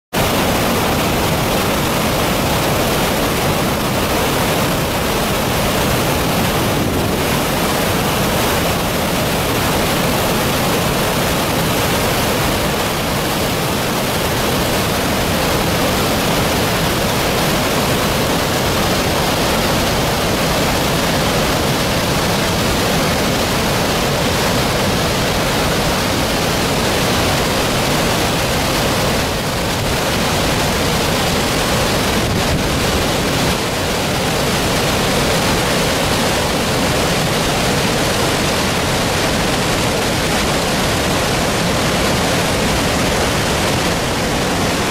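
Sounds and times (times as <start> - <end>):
waterfall roaring: 0.1 - 44.9.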